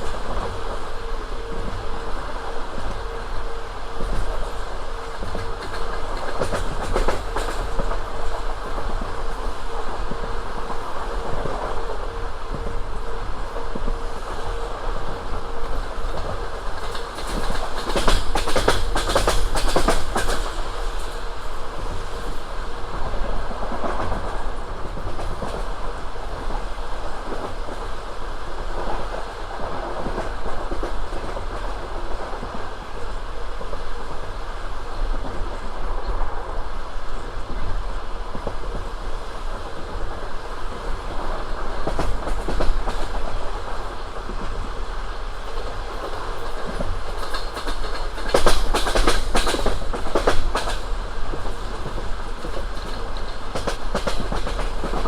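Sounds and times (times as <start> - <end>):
train wheels clacking on rails: 0.0 - 36.6, 37.2 - 55.0
train carriage rumble: 0.0 - 55.0.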